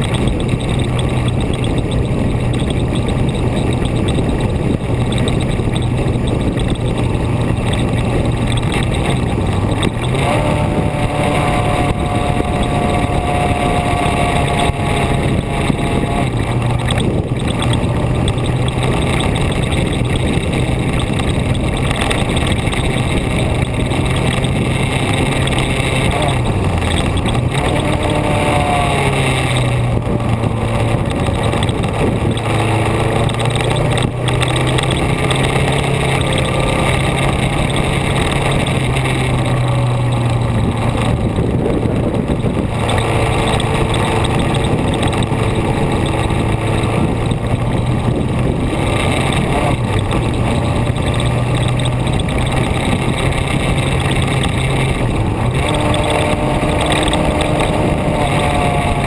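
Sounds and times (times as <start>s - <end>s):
vehicle engine hum: 0.0s - 59.0s
wind and road noise: 0.0s - 59.0s.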